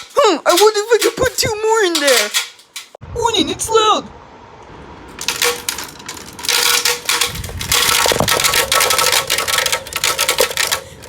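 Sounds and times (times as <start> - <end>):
objects rattling in air conditioner: 0.0 - 3.0, 5.0 - 11.0.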